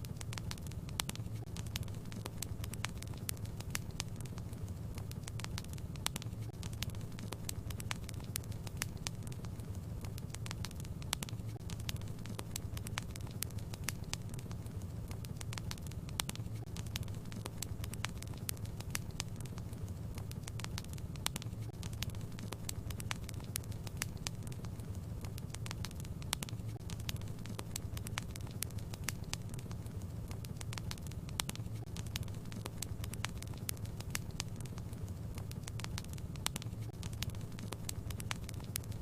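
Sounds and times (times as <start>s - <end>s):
steady low hum: 0.0s - 39.0s
wood fire crackling: 0.0s - 39.0s.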